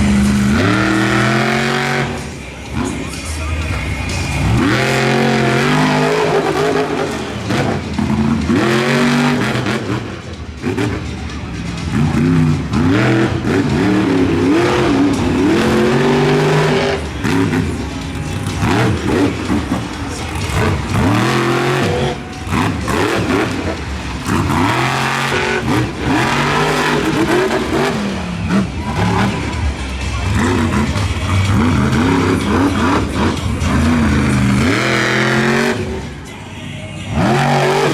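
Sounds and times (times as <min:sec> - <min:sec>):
monster truck engine revving: 0:00.0 - 0:37.9.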